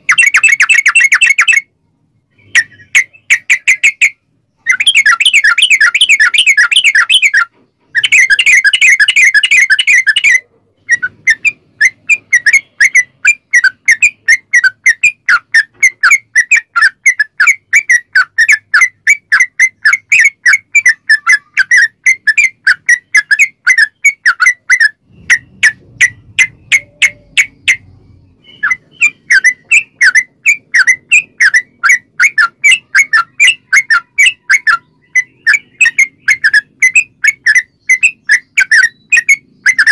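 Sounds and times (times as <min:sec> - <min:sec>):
bulbul singing rapid notes: 0:00.0 - 0:01.7, 0:02.3 - 0:39.9.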